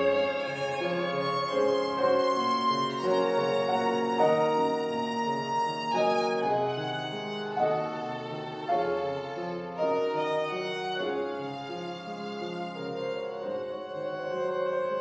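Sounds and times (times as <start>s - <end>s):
grand piano accompaniment: 0.0s - 15.0s
violin playing slow melody: 0.0s - 15.0s.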